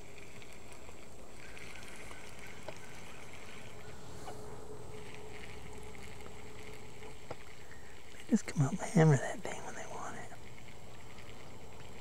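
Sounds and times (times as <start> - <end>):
faint steady hum: 0.0 - 12.0
low outdoor rumble: 0.0 - 12.0.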